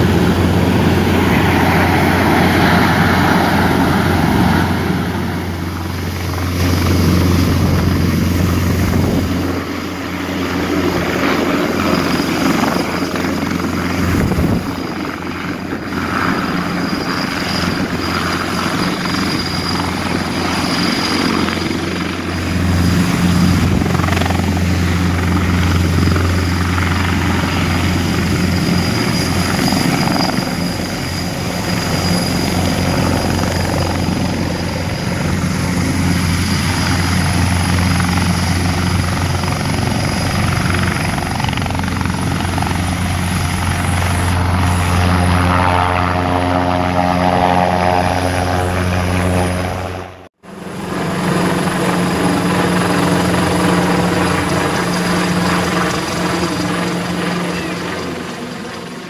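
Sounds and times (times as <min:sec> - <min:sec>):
helicopter rotor drone: 0:00.0 - 0:59.0
turbine whine: 0:00.0 - 0:59.0.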